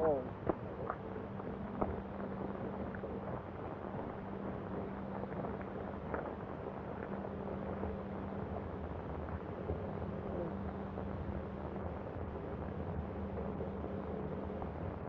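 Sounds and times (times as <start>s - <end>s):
film recording hiss and hum: 0.0s - 15.0s.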